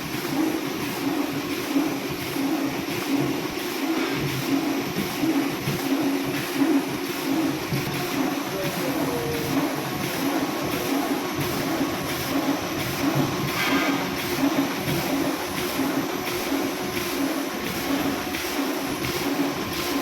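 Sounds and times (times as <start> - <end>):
bag-making machine cutting rhythmically: 0.0 - 20.0.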